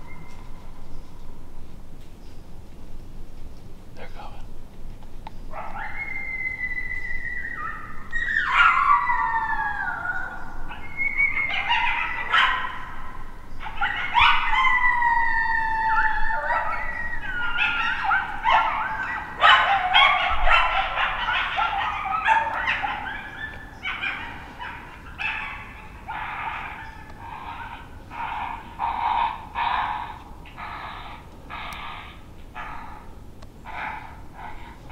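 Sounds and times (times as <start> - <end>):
coyote howls and yips: 5.5 - 34.9.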